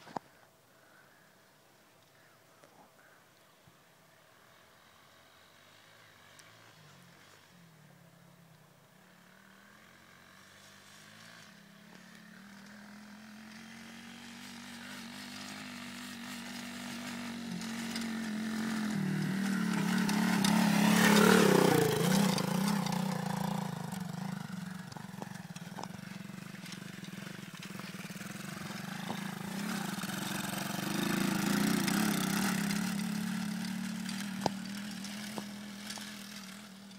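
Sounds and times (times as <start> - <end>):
dirt bike engine passing: 4.3 - 36.9.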